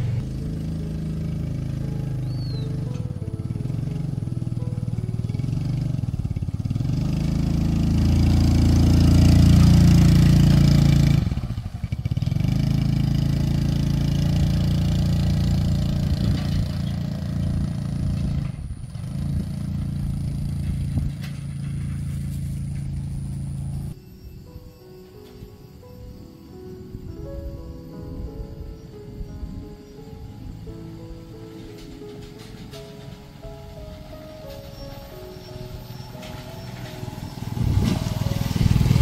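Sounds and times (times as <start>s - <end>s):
vehicle engine running: 0.0s - 24.0s, 30.6s - 39.0s.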